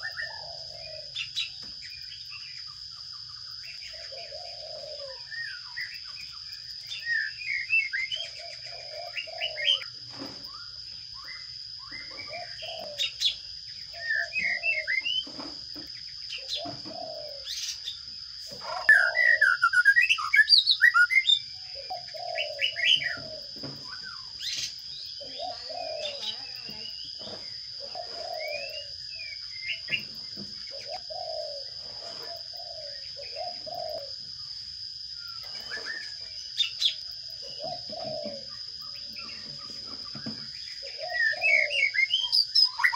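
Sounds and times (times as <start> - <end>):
dove cooing: 0.0 - 1.7, 3.6 - 6.0, 6.8 - 10.4, 11.9 - 34.4, 35.4 - 42.9
sparrows chirping: 0.0 - 42.9.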